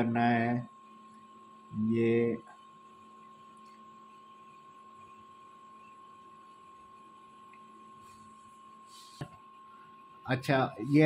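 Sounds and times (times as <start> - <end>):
electrical hum: 0.0 - 11.0
high whine: 0.0 - 11.0
low hiss: 0.0 - 11.0.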